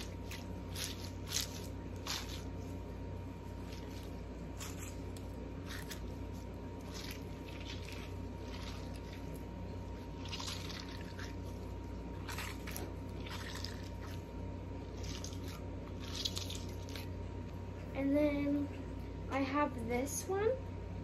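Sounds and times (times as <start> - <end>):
stress ball squishing: 0.0 - 17.2.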